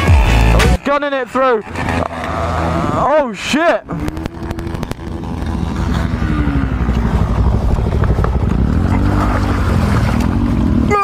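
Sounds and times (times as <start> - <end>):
dirt bike engine revving: 1.4 - 11.0.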